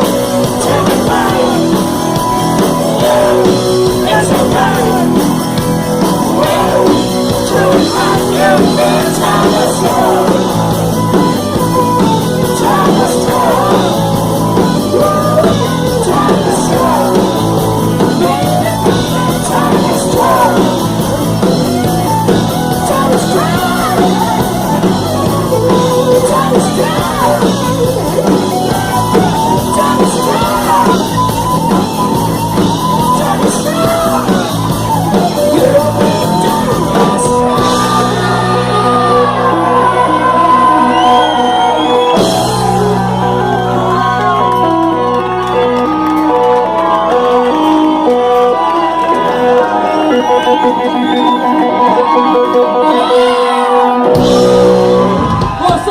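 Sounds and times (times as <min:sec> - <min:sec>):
rock band playing: 0:00.0 - 0:55.9
sung and shouted vocals: 0:00.0 - 0:55.9.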